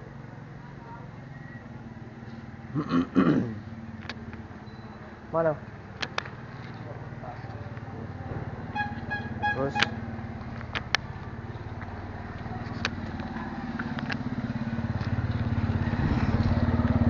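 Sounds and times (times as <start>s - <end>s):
scooter engine idling: 0.0s - 2.8s, 3.6s - 17.0s.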